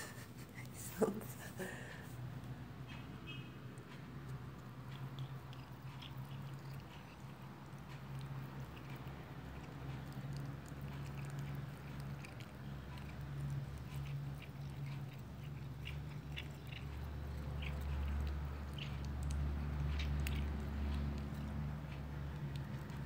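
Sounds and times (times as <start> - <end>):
cat chewing grass: 0.0 - 23.0.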